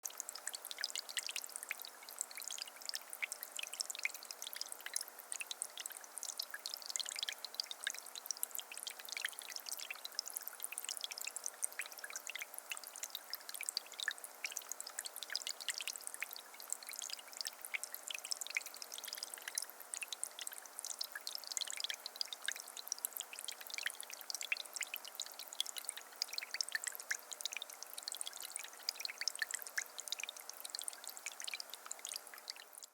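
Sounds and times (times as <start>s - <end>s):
fountain water trickling: 0.0s - 32.9s
water splashes and drips: 0.0s - 32.9s.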